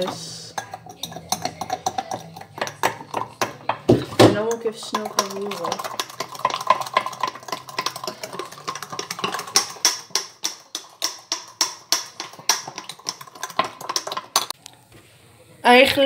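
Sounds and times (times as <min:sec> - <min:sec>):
spoon clinking against glass: 0:00.0 - 0:14.5.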